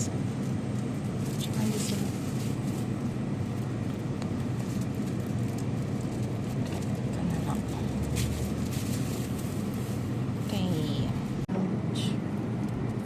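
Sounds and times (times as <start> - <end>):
deeper hum: 0.0 - 13.0
low rumbling hum: 0.0 - 13.0.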